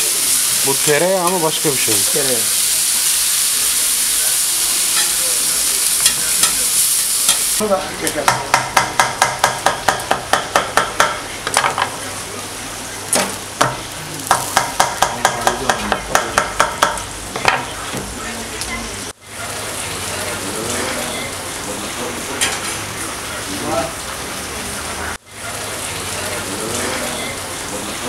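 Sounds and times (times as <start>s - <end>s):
steady sizzling hiss: 0.0s - 28.0s.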